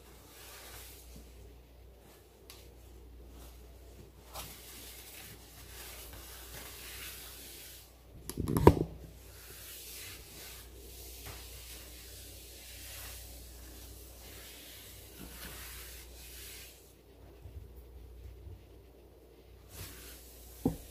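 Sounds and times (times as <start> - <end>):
steady faint hiss: 0.0 - 20.9.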